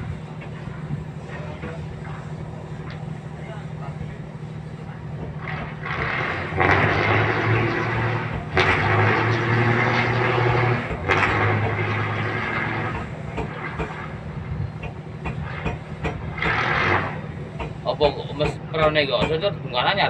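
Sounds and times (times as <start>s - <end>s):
boat diesel engine running: 0.0s - 20.0s.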